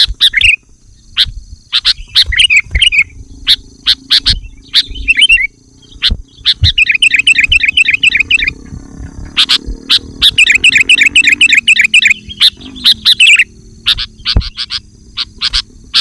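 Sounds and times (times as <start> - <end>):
bird chattering: 0.0 - 16.0
birds calling and chirping: 0.0 - 16.0.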